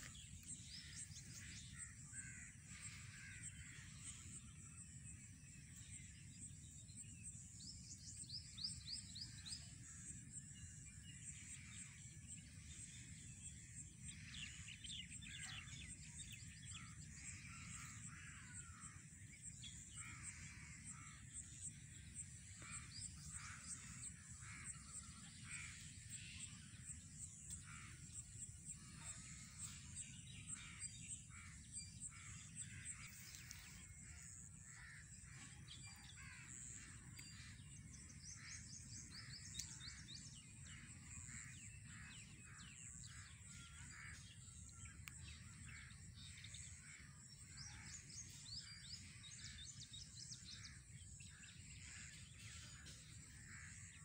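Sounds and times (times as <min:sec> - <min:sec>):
faint bird calls and chirps: 0:00.0 - 0:54.0.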